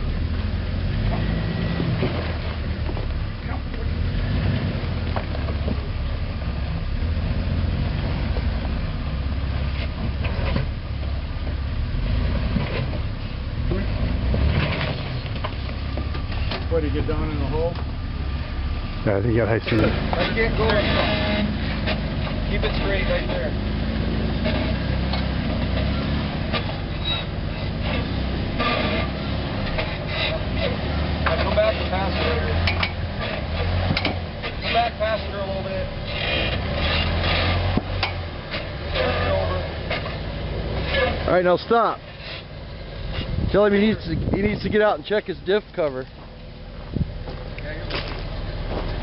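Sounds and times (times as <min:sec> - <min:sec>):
off-road vehicle engine running slowly: 0:00.0 - 0:49.0.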